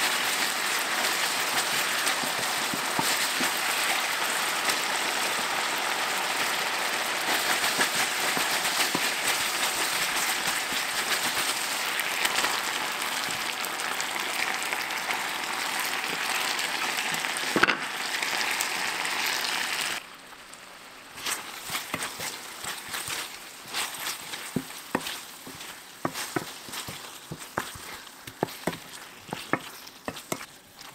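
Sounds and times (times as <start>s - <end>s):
sauce boiling in frying pan: 0.0s - 30.9s.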